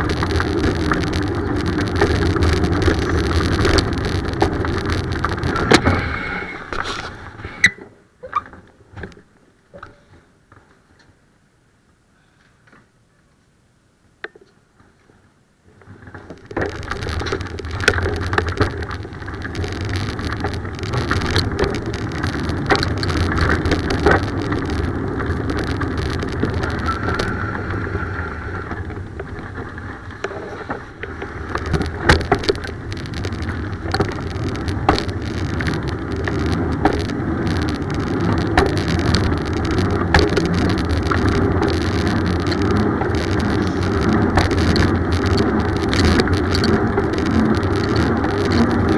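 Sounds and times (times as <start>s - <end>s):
bicycle clicks and rattles: 0.0s - 11.2s, 15.8s - 48.9s
bicycle tyre rumble on road: 0.0s - 11.4s, 14.7s - 48.9s.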